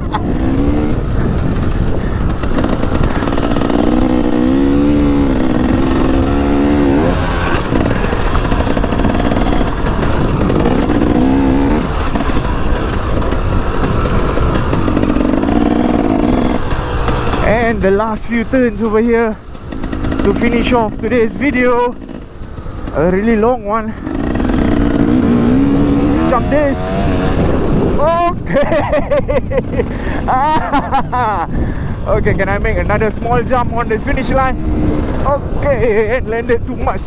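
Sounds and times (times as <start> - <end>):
wind noise on microphone: 0.0 - 18.5, 23.8 - 37.0
dirt bike engine revving: 0.0 - 37.0.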